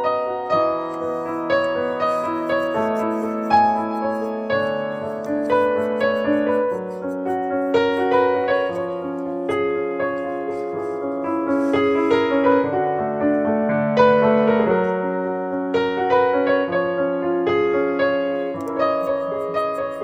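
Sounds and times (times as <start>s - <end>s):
slow gentle piano melody: 0.0s - 20.0s.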